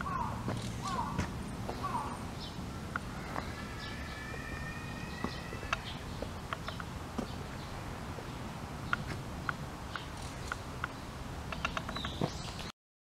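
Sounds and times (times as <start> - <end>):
birds chirping: 0.0 - 12.7
footsteps on paved path: 0.0 - 12.7.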